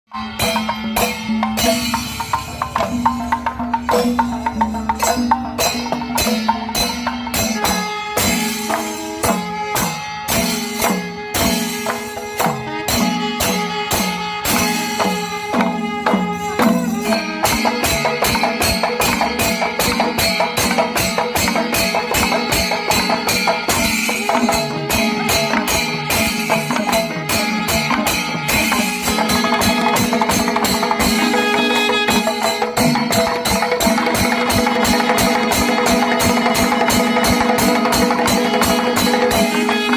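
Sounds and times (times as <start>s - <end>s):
clashing cymbals: 0.1s - 39.9s
drum ensemble playing fast: 0.1s - 39.9s
held pitched notes: 0.2s - 39.9s.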